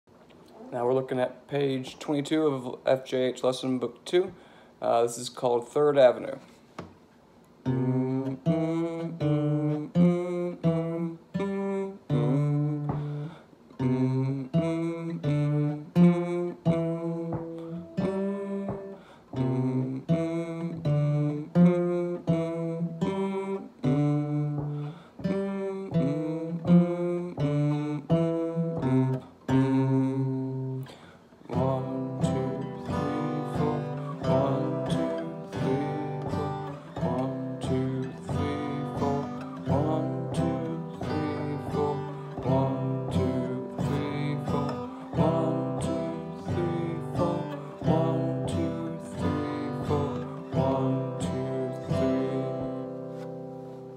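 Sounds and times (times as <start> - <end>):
acoustic guitar playing: 0.4 - 3.2, 7.6 - 53.9.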